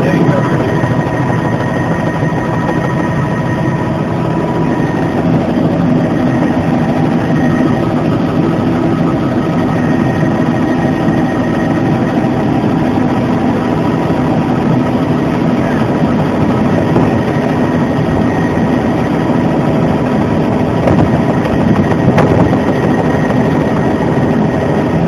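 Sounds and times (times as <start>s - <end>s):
helicopter turbine and rotors droning: 0.0s - 25.0s
thin steady whine: 0.0s - 25.0s.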